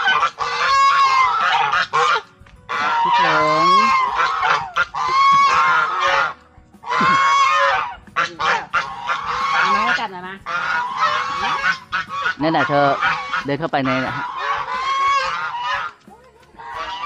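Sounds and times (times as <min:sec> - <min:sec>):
farmyard fowl calling: 0:00.0 - 0:17.0.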